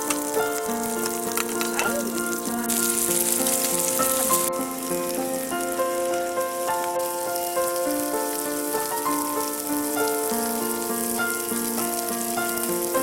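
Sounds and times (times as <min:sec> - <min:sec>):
slow melody of held notes: 0:00.0 - 0:13.0
steady high hiss: 0:00.0 - 0:13.0.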